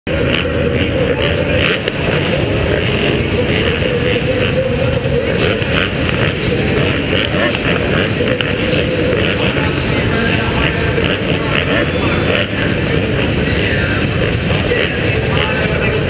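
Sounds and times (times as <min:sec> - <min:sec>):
dirt bike engines revving: 0:00.1 - 0:16.0.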